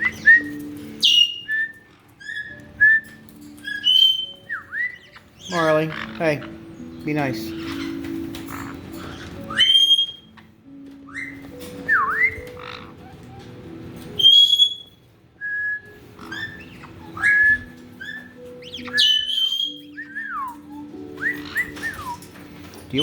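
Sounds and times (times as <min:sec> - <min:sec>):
faint background music: 0:00.0 - 0:23.0
parrots whistling and squawking: 0:00.0 - 0:23.0.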